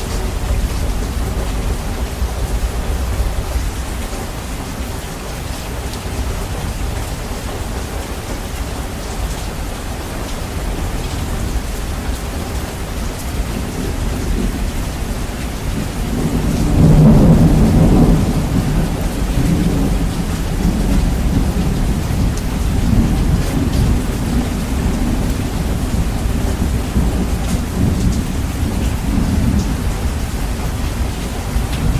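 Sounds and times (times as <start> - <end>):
steady rainfall: 0.0 - 31.9
thunder rumbling: 0.0 - 31.9.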